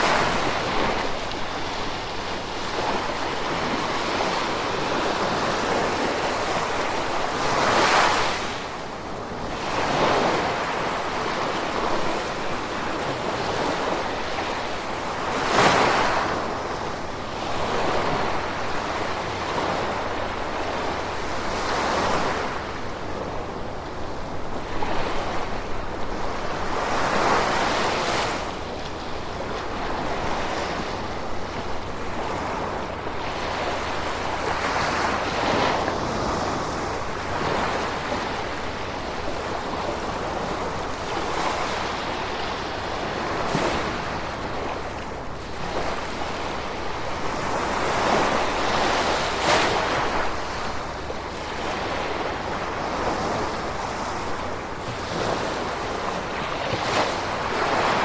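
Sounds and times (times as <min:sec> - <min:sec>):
ocean waves washing ashore: 0:00.0 - 0:58.0.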